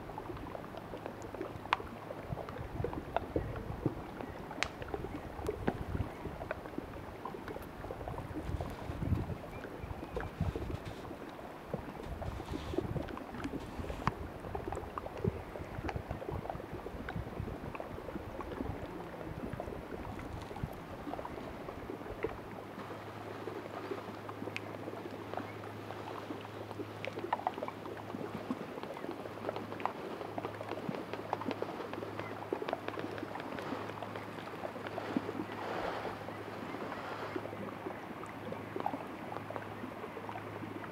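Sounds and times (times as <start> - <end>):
air bubbles fizzing: 0.0 - 39.6
water gently lapping: 0.0 - 40.9
glacial ice crackling and popping: 0.3 - 25.2, 26.1 - 37.5.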